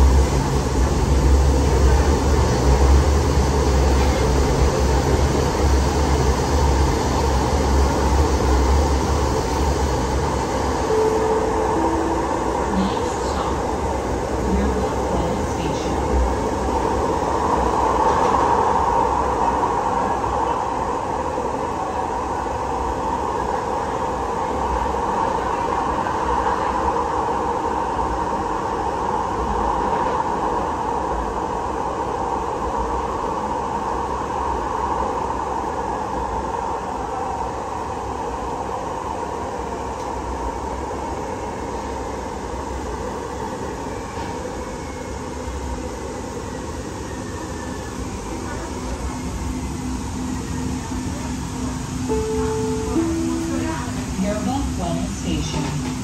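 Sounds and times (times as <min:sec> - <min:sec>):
faint falling whine: 0:00.0 - 0:25.2, 0:28.0 - 0:56.0
light rail car rumbling in tunnel: 0:00.0 - 0:56.0.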